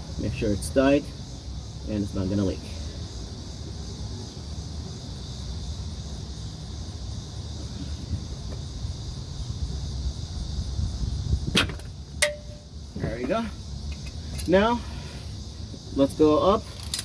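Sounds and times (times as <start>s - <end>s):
constant high hiss: 0.0s - 17.0s.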